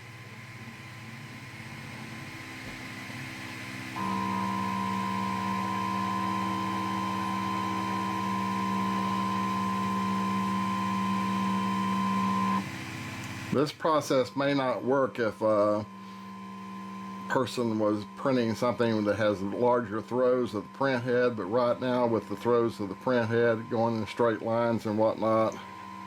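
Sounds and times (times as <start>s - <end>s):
printer stepper motors whining: 0.0s - 26.0s.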